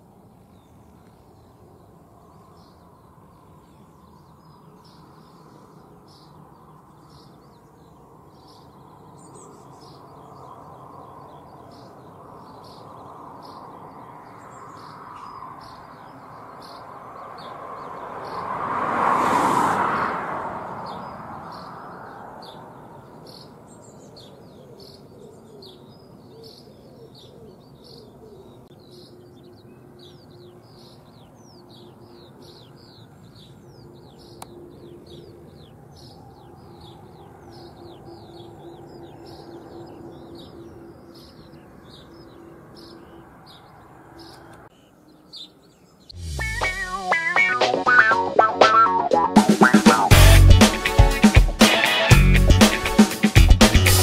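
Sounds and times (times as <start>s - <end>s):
small birds chirping: 0.0s - 52.1s.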